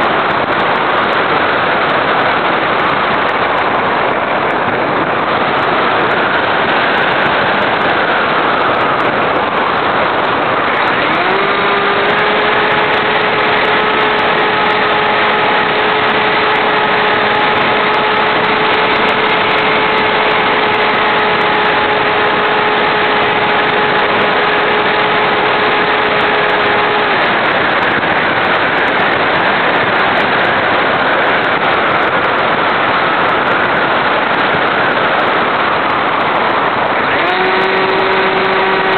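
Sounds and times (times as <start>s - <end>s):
model plane motor whine: 0.0s - 38.9s
wind over microphone: 0.0s - 38.9s.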